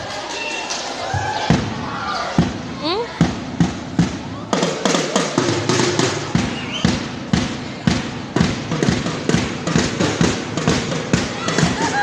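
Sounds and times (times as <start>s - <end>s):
toms and bass drum beating: 1.2s - 12.0s.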